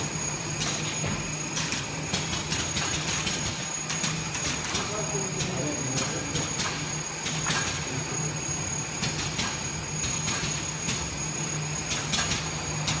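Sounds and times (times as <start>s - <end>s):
machine hum with high whine: 0.0s - 13.0s.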